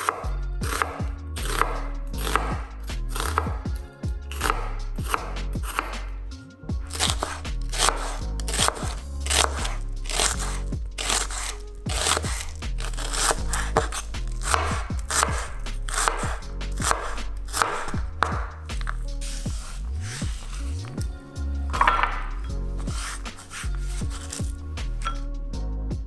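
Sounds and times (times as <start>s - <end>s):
knife chopping onion on board: 0.0s - 3.6s, 4.3s - 6.0s, 6.9s - 25.0s
background music: 0.0s - 26.0s.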